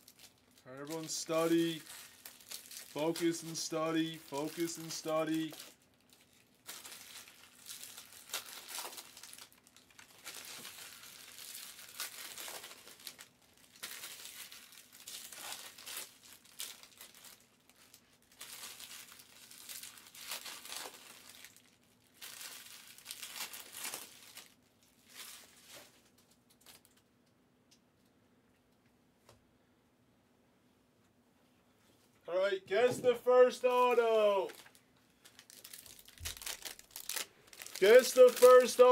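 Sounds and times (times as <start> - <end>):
foil wrappers crinkling and tearing: 0.0 - 27.1, 32.7 - 38.9.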